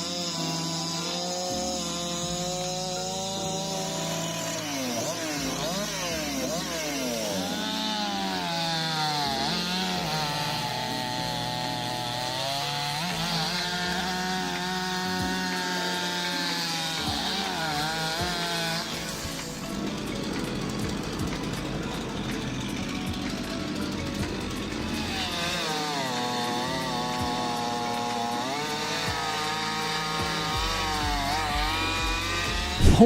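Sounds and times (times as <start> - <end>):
chainsaw cutting wood: 0.0 - 33.0.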